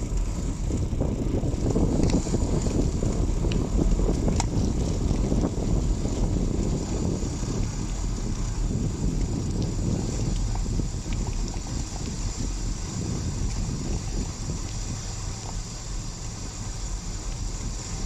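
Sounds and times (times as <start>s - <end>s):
bicycle tyres on wet road: 0.0s - 18.0s
bike clicks and rattles: 0.0s - 18.0s
wind rushing over microphone: 0.0s - 18.0s.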